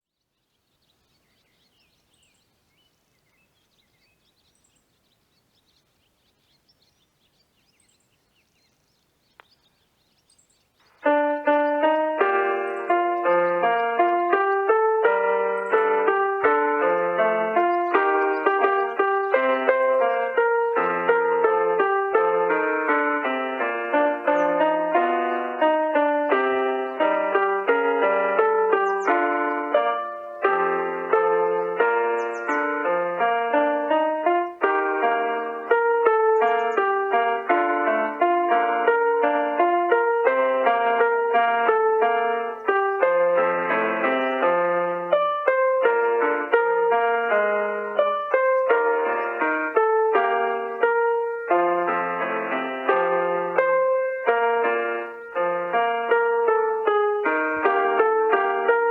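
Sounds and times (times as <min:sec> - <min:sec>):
faint bird chirps: 0:00.1 - 0:22.2, 0:23.8 - 0:25.0, 0:26.7 - 0:40.3, 0:41.6 - 0:52.2
electronic keyboard melody over loudspeaker: 0:10.9 - 0:58.9.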